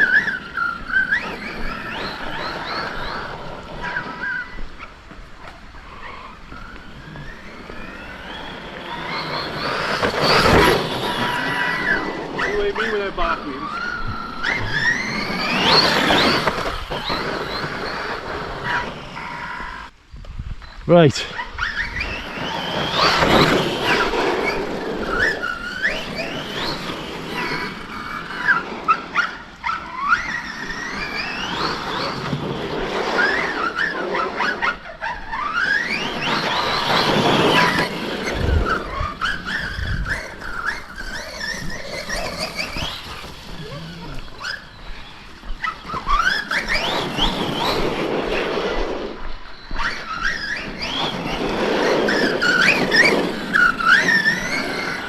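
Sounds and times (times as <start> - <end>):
electric motor whining: 0.0 - 20.0, 21.4 - 48.8
tyres on dirt: 0.0 - 20.0, 20.6 - 55.0.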